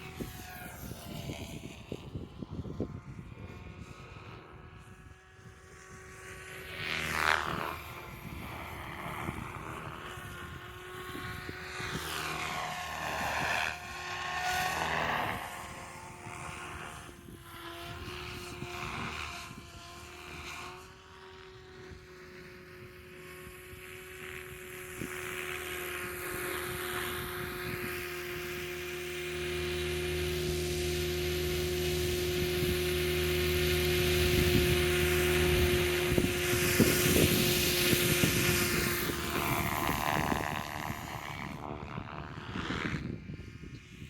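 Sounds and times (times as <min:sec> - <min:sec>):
wind buffeting microphone: 0:00.0 - 0:20.9, 0:21.7 - 0:44.0
helicopter flying: 0:00.0 - 0:44.0.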